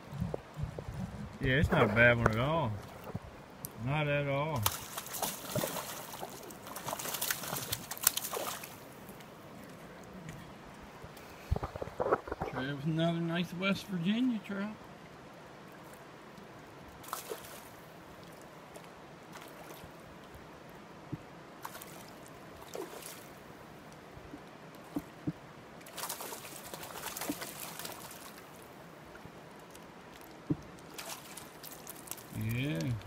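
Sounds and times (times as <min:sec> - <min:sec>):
water splashing: 0:00.0 - 0:10.3, 0:15.6 - 0:33.0
river water flowing: 0:00.0 - 0:33.0.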